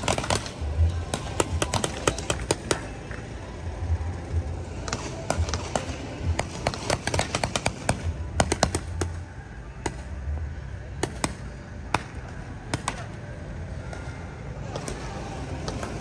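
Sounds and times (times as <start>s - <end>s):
paintball markers firing: 0.0s - 3.2s, 4.8s - 10.3s, 11.0s - 16.0s.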